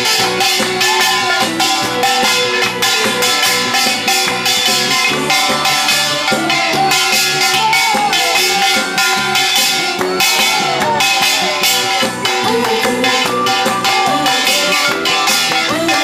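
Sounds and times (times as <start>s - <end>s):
upbeat backing music: 0.0s - 16.0s.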